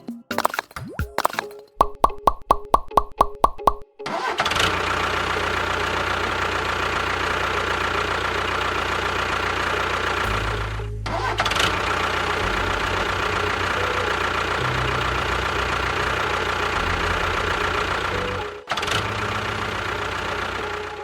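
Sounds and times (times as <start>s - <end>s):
engine running: 4.1s - 21.0s.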